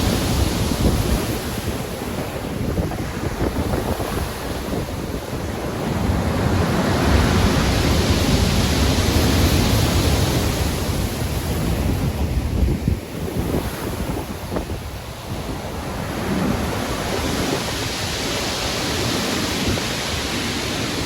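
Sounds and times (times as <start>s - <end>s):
stormy sea surf: 0.0s - 21.0s
wind: 0.0s - 21.0s.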